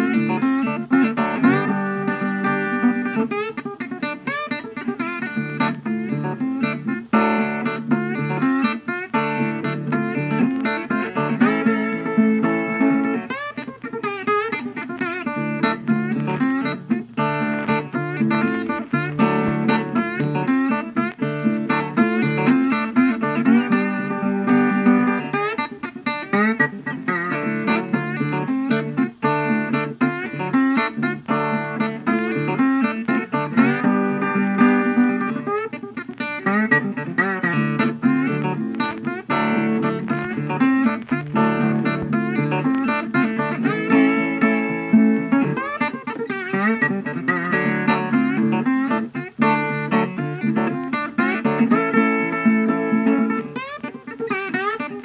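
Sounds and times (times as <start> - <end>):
plucked guitar: 0.0 - 55.0.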